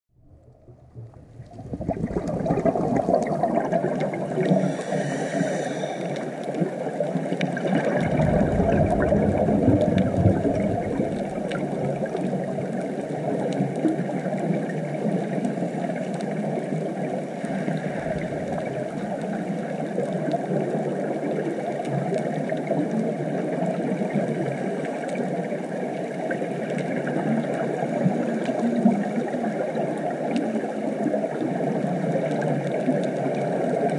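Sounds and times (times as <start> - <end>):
muffled underwater rush: 0.2 - 33.9
faint underwater clicks: 0.4 - 33.9.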